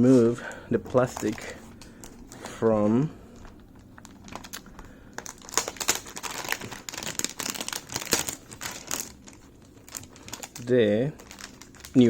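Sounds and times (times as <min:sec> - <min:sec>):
plastic film crinkling: 0:00.7 - 0:12.0.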